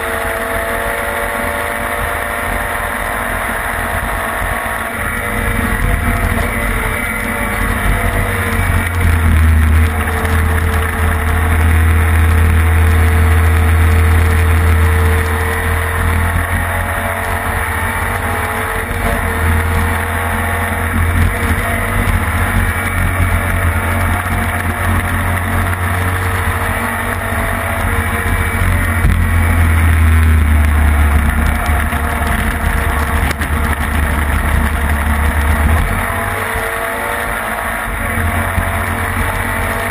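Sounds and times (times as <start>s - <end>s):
racing engine at speed: 0.0s - 39.9s.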